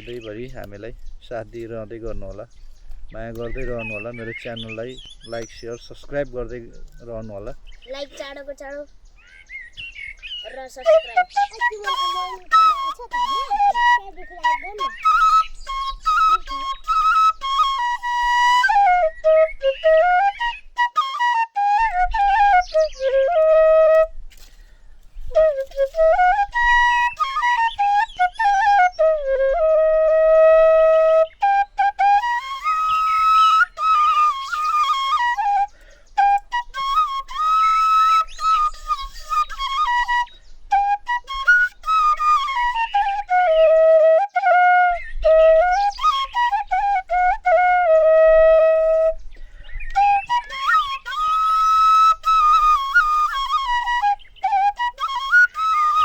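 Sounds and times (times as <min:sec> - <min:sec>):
flute playing slow melody: 0:10.8 - 0:56.0.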